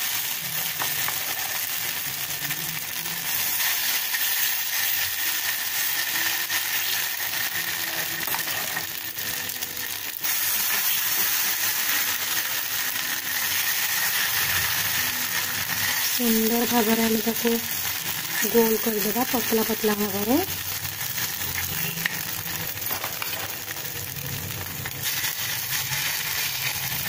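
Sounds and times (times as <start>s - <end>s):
batter sizzling in hot oil: 0.0s - 27.0s.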